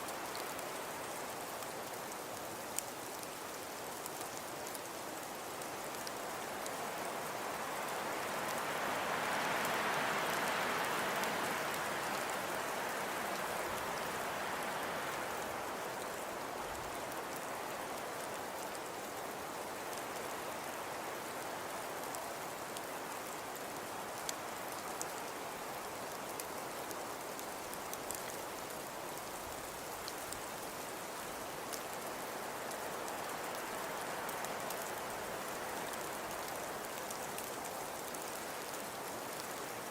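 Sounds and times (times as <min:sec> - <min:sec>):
faint ticks: 0:00.0 - 0:39.9
snowfall hiss and patter: 0:00.0 - 0:39.9.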